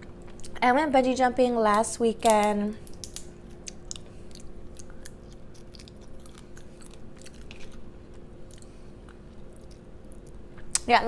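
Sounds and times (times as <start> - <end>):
chewing and crunching crab: 0.0 - 0.7, 1.7 - 10.5.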